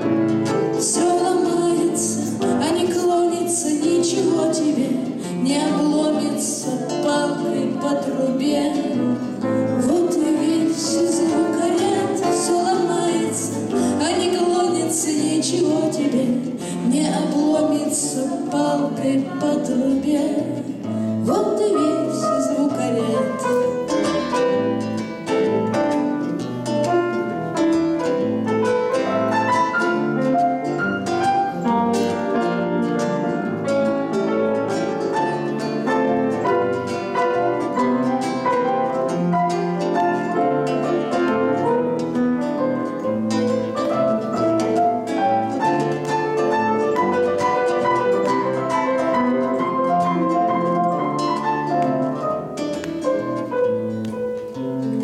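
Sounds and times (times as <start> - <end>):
grand piano accompaniment: 0.0 - 55.0
mandolin tremolo melody: 0.0 - 55.0.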